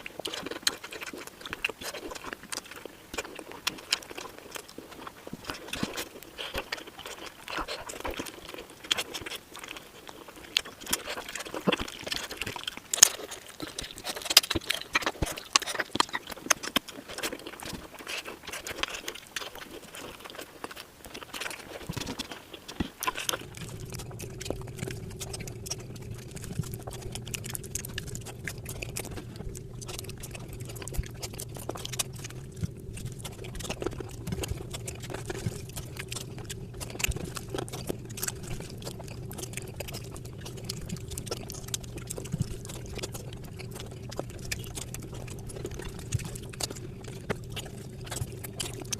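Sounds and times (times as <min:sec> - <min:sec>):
steady low hum: 0:00.0 - 0:48.9
wet eating and chewing: 0:00.0 - 0:48.9.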